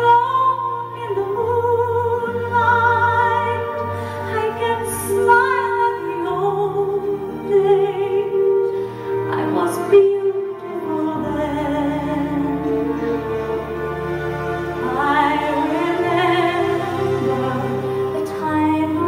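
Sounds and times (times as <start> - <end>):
sustained musical accompaniment: 0.0 - 19.0.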